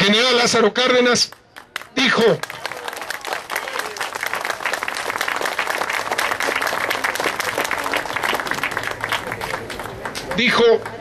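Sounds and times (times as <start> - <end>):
crowd applauding: 1.4 - 11.0.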